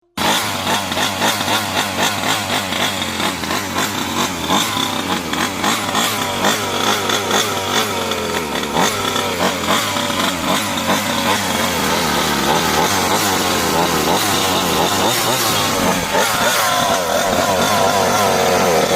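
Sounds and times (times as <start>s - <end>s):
two-stroke engine revving: 0.0s - 18.9s.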